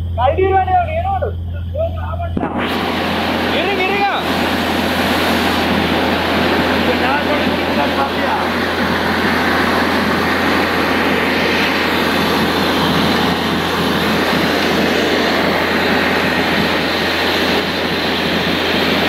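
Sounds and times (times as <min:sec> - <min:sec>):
low engine hum: 0:00.0 - 0:19.0
water gushing from borehole: 0:02.4 - 0:19.0.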